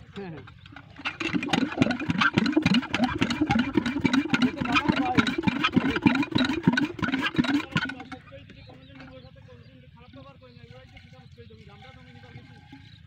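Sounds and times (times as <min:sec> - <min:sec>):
diesel engine chugging: 0:00.0 - 0:11.8.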